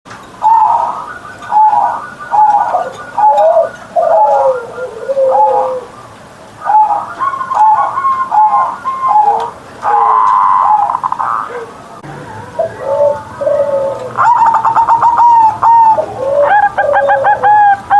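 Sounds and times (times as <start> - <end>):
dove cooing: 0.4 - 17.9.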